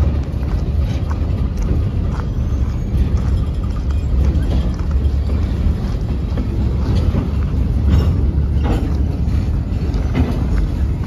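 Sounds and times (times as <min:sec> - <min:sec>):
freight cars rumbling on rails: 0:00.0 - 0:11.0
wheels clacking over rail joints: 0:00.0 - 0:11.0.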